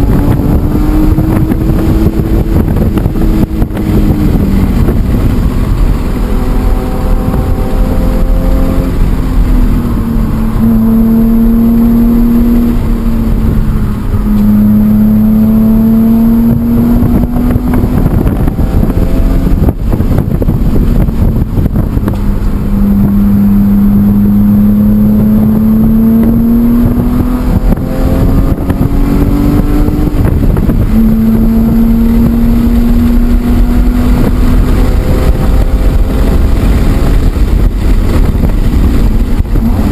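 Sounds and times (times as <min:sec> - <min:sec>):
car engine under hard load: 0:00.0 - 0:39.9
road and wind noise: 0:00.0 - 0:39.9.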